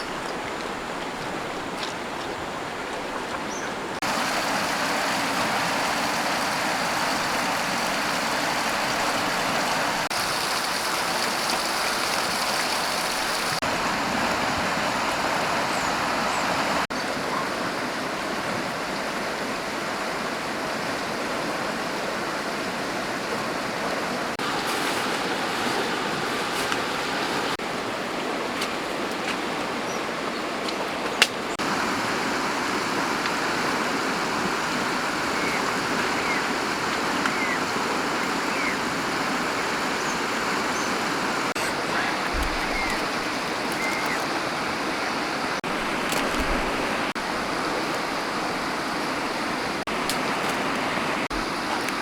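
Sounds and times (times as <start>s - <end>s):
stream flowing: 0.0s - 52.0s.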